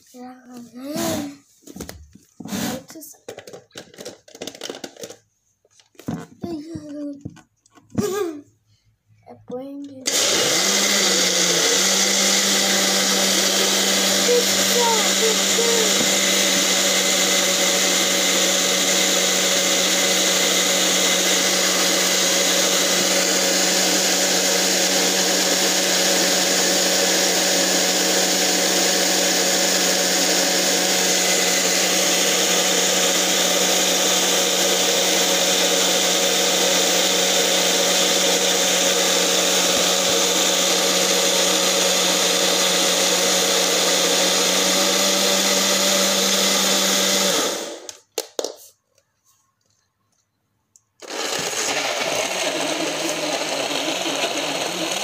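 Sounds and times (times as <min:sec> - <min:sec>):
blender motor whirring: 0:00.9 - 0:01.4, 0:02.4 - 0:05.2, 0:10.0 - 0:48.2, 0:51.0 - 0:55.0.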